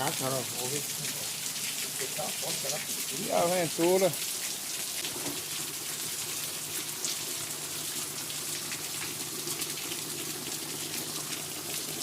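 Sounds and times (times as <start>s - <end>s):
water running and pouring: 0.0s - 12.0s.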